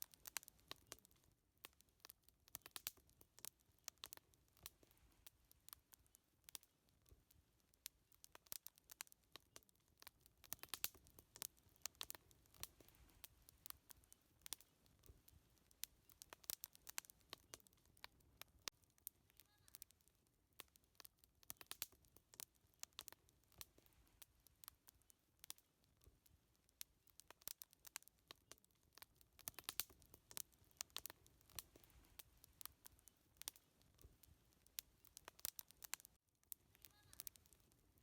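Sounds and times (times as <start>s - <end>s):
faint low hiss: 0.0s - 38.0s
wood fire crackling: 0.0s - 38.0s.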